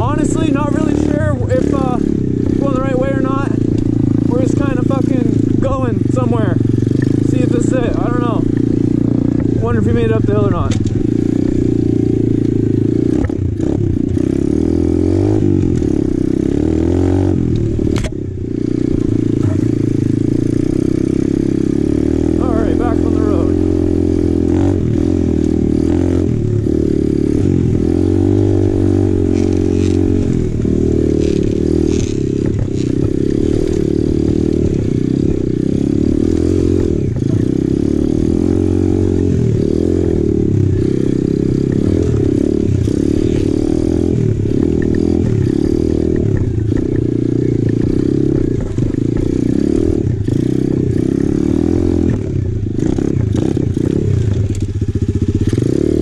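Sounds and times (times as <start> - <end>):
pit bike engine under load: 0.0 - 56.0.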